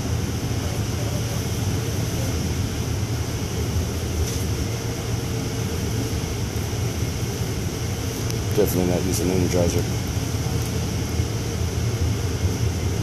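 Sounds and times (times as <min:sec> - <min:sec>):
rail car rumble: 0:00.0 - 0:13.0.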